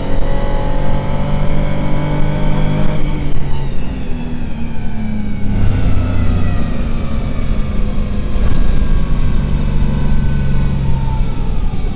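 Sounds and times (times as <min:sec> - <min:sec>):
rally car engine from inside cabin: 0:00.0 - 0:11.9.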